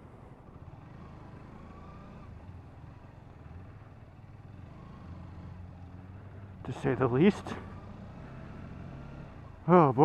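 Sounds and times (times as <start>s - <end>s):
road noise: 0.0s - 10.0s
motorcycle engine running: 0.6s - 9.8s.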